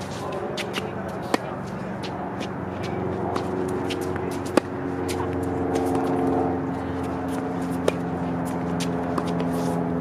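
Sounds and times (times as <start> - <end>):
shoes scuffing on court: 0.0 - 10.0
steady motor hum: 0.0 - 10.0
tennis ball striking racket: 0.0 - 10.0.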